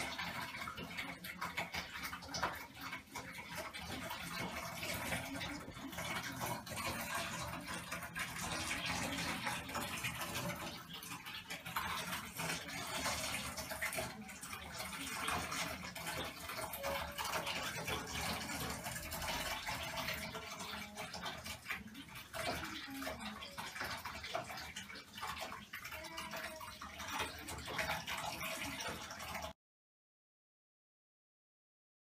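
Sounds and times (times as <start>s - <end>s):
water running into bathtub: 0.0s - 29.6s.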